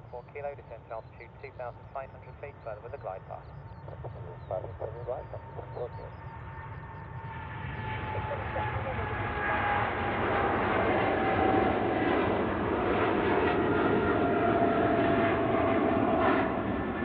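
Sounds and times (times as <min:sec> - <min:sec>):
jet roar with whining tone: 0:00.0 - 0:17.0.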